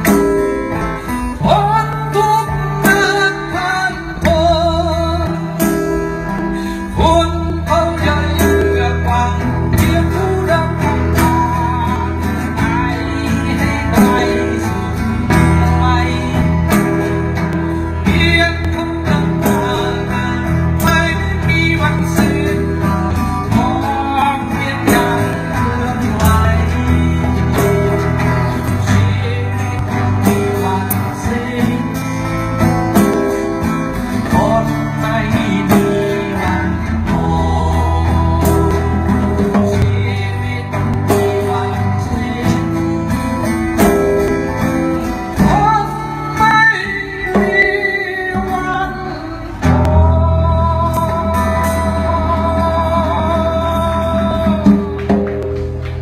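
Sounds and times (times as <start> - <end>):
acoustic guitars: 0.0 - 56.0.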